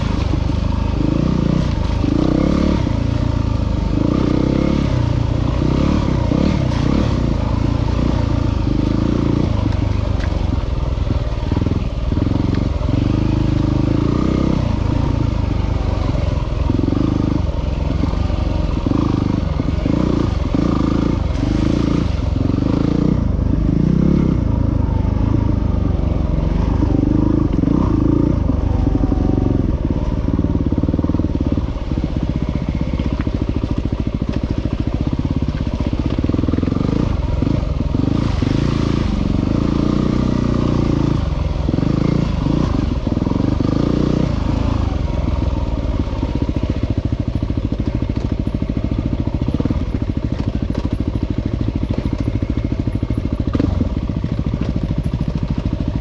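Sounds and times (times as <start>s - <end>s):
engine revving: 0.0s - 46.9s, 47.8s - 55.7s.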